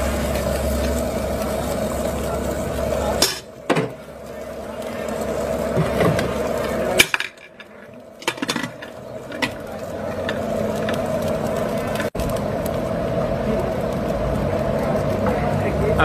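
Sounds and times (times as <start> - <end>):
broth boiling hard: 0.0 - 16.0.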